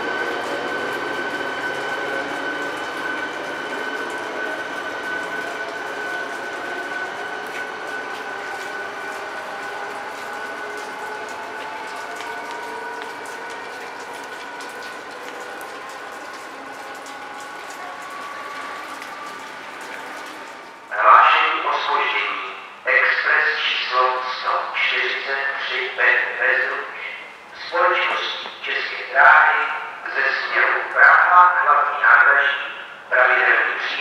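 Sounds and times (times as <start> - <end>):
electric train whine: 0.0 - 34.0.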